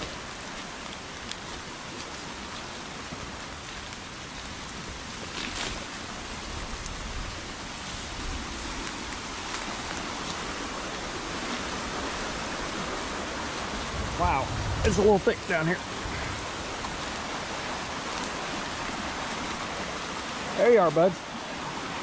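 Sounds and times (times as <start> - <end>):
heavy rain falling: 0.0 - 22.0
raindrops ticking close by: 0.0 - 22.0
rushing flooded creek: 0.0 - 22.0.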